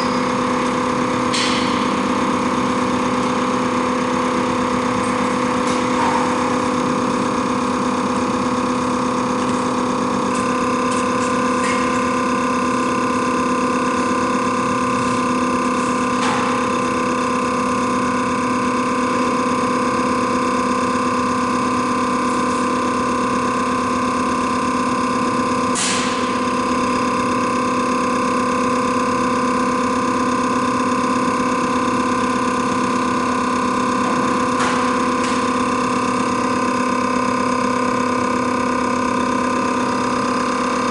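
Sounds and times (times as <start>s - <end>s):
test bench motor and pump hum: 0.0s - 40.9s.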